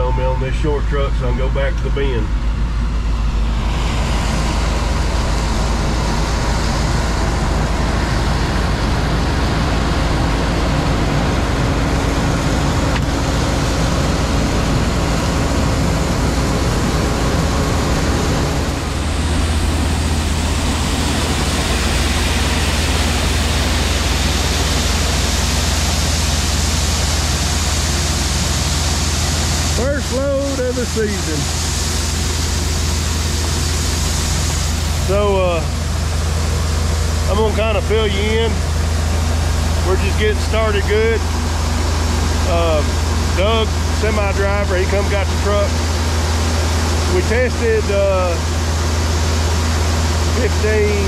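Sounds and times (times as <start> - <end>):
farm machinery running: 0.0 - 51.0
low machinery hum: 0.0 - 51.0.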